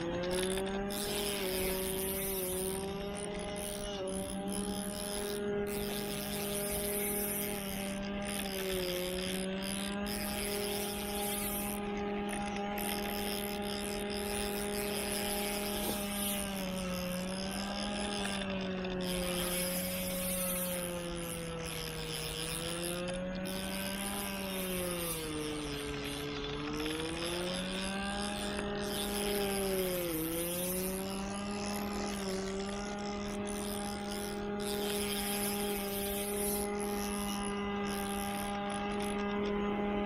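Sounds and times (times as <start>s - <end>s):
motor engine running: 0.0s - 40.0s.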